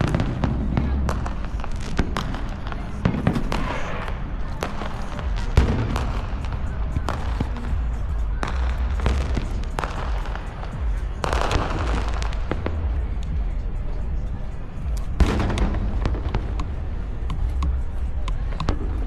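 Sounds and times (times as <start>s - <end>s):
fireworks banging: 0.0s - 19.0s
fireworks crackling: 0.0s - 19.0s.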